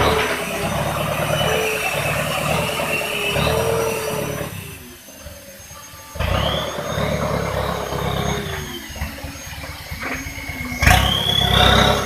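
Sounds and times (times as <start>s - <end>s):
diesel engine revving: 0.0s - 12.0s
turbo whistle: 0.0s - 12.0s.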